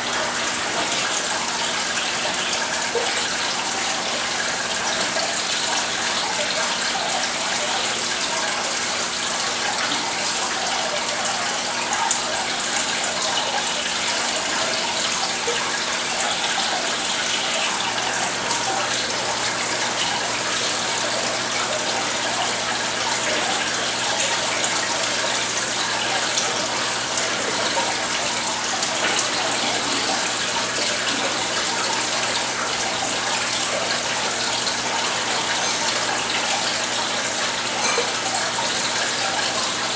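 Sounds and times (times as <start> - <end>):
water falling and splashing: 0.0 - 39.9.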